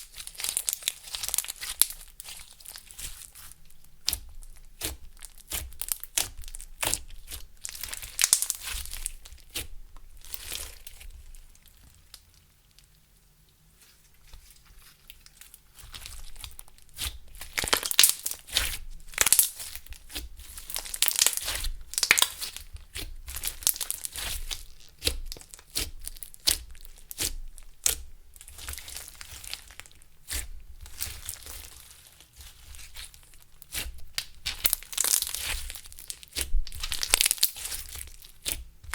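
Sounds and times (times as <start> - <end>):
slime crackling and popping: 0.0 - 12.9, 14.5 - 38.9.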